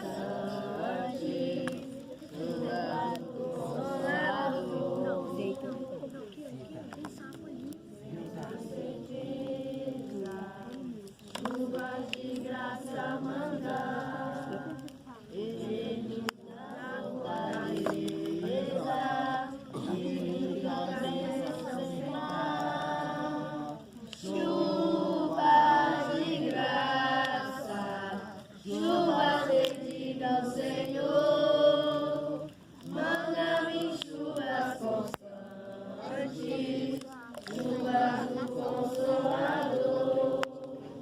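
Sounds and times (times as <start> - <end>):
group of voices singing: 0.0 - 41.0.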